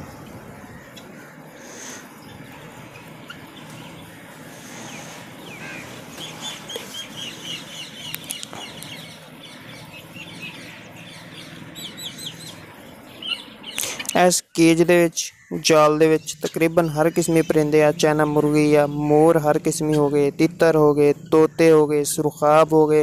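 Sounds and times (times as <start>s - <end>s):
birds chirping: 0.0s - 23.0s
faint steady hum: 0.0s - 23.0s.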